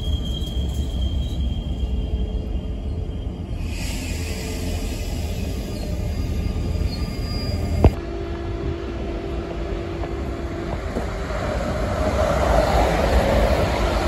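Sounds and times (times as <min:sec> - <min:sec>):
electric train approaching: 0:00.0 - 0:14.0.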